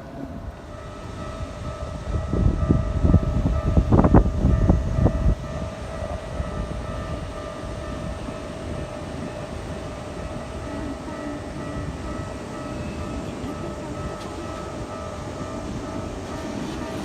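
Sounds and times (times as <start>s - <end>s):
crossing warning bell ringing: 0.0s - 17.0s
train rumble and wheel clacks: 0.0s - 17.0s.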